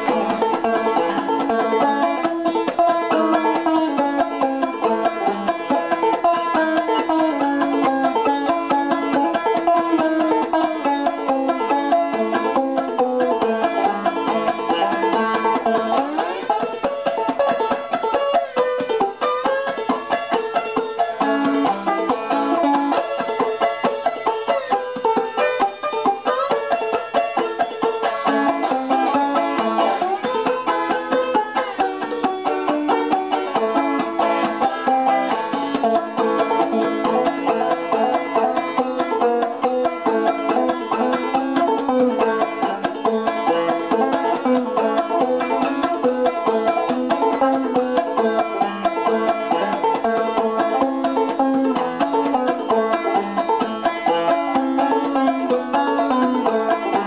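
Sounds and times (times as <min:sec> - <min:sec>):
plucked string instrumental music: 0:00.0 - 0:57.0.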